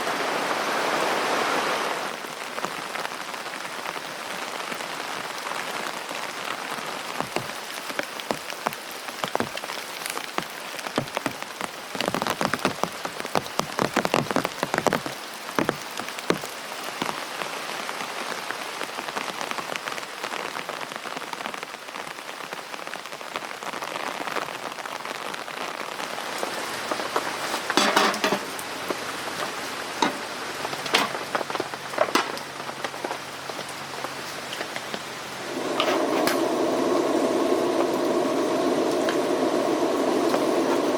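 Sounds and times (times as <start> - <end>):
rain falling on a tent: 0.0 - 40.9.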